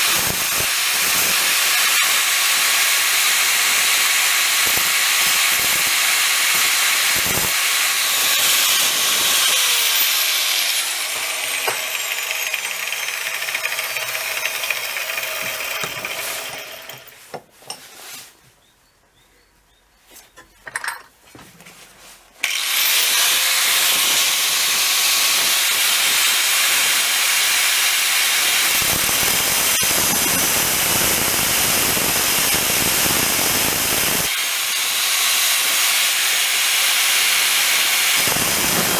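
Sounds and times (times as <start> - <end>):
grinder grinding steel: 0.0 - 17.8, 22.4 - 38.9.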